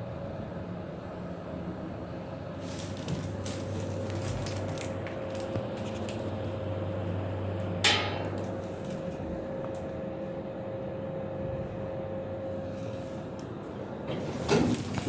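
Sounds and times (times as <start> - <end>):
lift mechanical hum: 0.0 - 15.0.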